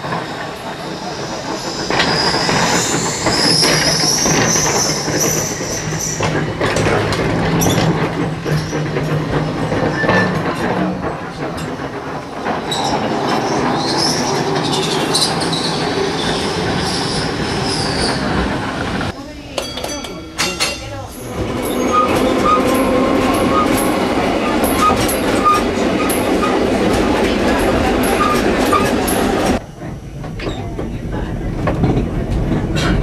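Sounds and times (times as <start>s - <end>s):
tram wheels squealing: 0.0s - 19.1s, 19.9s - 29.6s.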